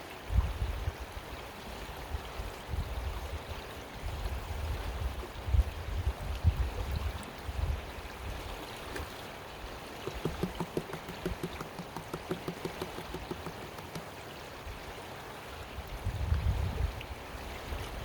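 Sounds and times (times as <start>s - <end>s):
creek water flowing: 1.0s - 18.0s.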